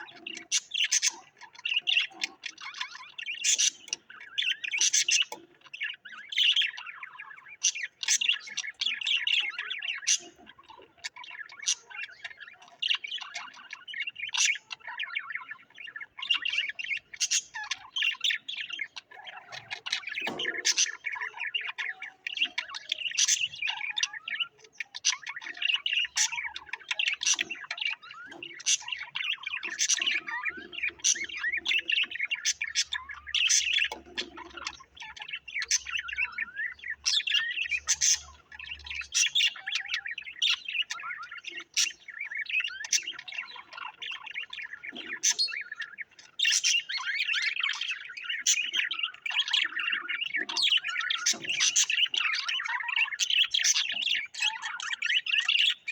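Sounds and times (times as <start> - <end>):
cage birds chirping and twittering: 0.0 - 55.9.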